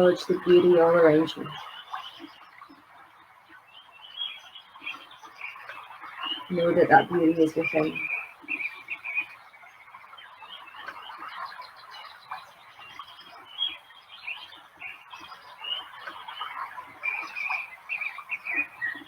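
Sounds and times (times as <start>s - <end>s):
faint steady hiss: 0.0s - 19.0s
small birds chirping: 0.0s - 19.0s.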